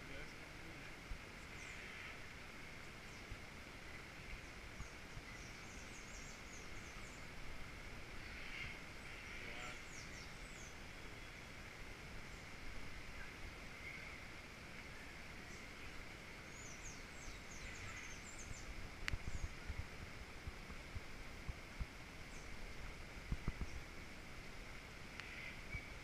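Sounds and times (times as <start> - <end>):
small birds chirping: 0.0 - 24.1
steady outdoor hiss: 0.0 - 26.0.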